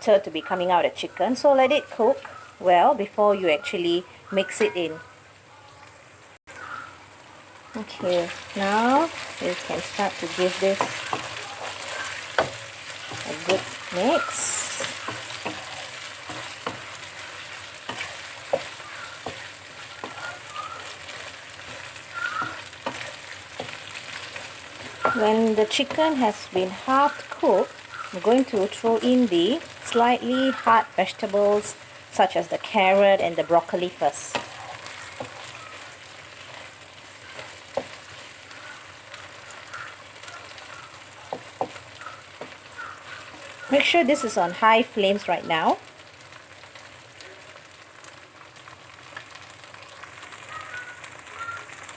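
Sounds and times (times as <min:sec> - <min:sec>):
chicken sizzling in hot oil: 0:06.5 - 0:51.9.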